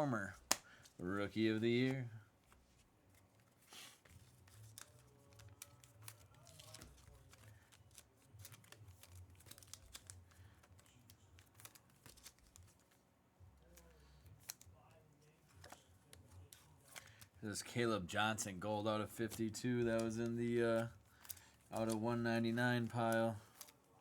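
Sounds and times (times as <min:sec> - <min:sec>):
trading cards handled: 0:00.0 - 0:24.0.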